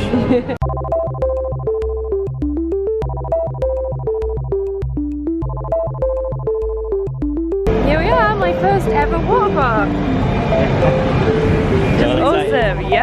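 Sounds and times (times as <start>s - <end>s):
bass line: 0.6s - 13.0s
steady ticking beat: 0.6s - 13.0s
synthesizer melody: 0.6s - 13.0s.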